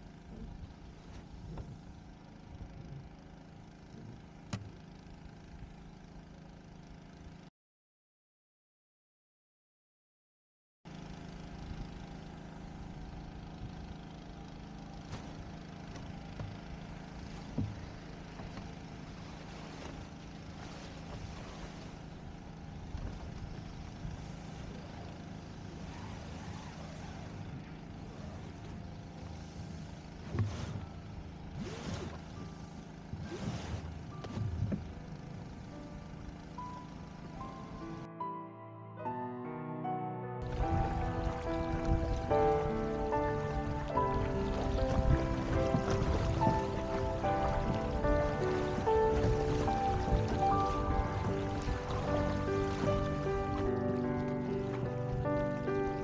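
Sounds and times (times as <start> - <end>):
low outdoor rumble: 0.0 - 6.2, 11.1 - 38.1, 40.4 - 56.0.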